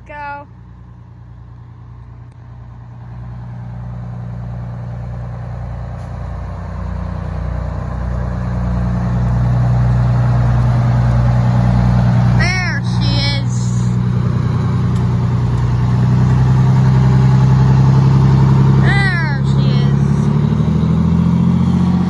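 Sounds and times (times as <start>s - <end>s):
fire engine engine humming: 0.0s - 22.0s.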